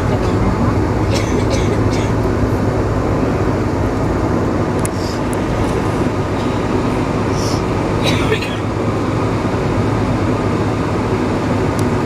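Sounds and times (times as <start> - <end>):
aircraft cabin hum and rumble: 0.0 - 12.0.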